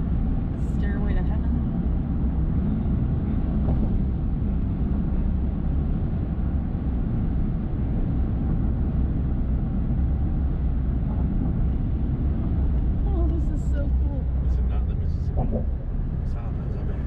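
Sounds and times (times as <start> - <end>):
truck engine and tyres rumbling: 0.0 - 17.0.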